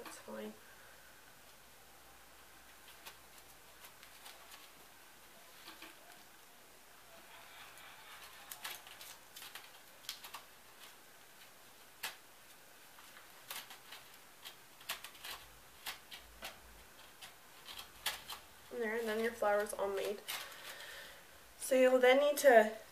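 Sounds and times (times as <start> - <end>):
faint clicks and rustles: 1.3 - 21.3.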